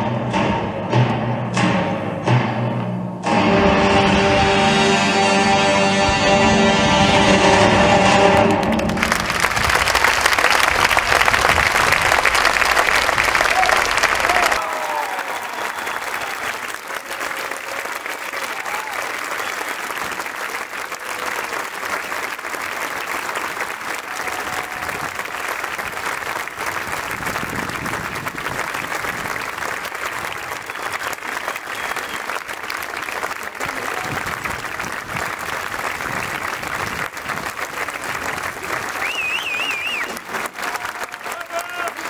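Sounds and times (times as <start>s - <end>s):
audience applauding: 8.2s - 42.0s.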